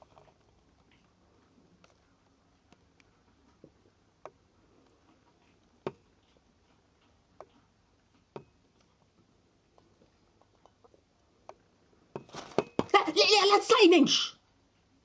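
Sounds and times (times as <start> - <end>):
faint sharp clicks and taps: 0.0 - 12.9.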